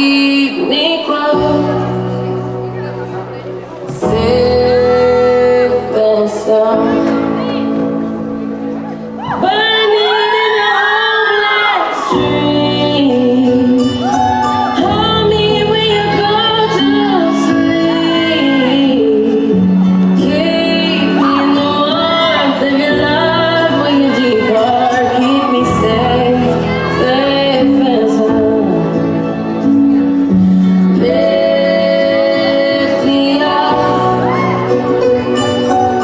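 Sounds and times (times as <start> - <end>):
woman singing over sound system: 0.0 - 3.0, 3.9 - 8.1, 9.3 - 30.0, 30.6 - 34.9.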